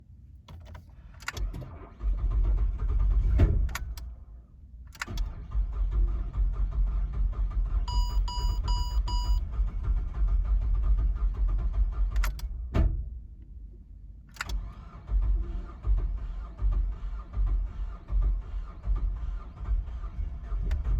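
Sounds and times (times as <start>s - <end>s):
car engine cranking and running roughly: 0.5s - 8.0s, 9.4s - 13.4s, 14.2s - 20.9s.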